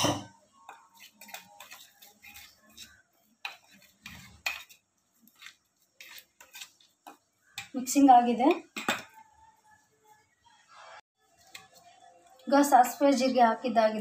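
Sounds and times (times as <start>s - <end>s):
metal spoon stirring in steel bowl: 0.0s - 13.7s.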